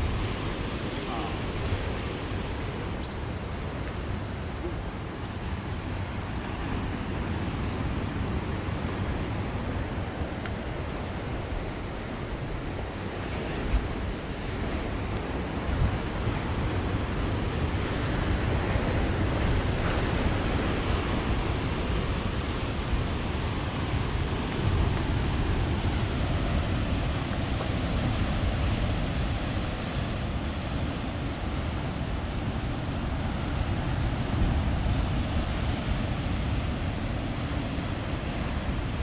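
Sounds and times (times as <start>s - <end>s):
waves breaking on shore: 0.0s - 39.0s
wind rumbling on microphone: 0.0s - 39.0s.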